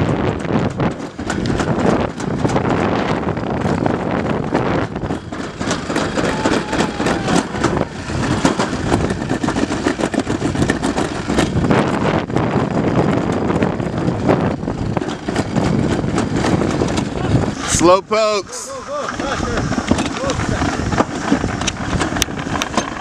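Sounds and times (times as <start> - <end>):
sled rattling in metal chute: 0.0 - 23.0.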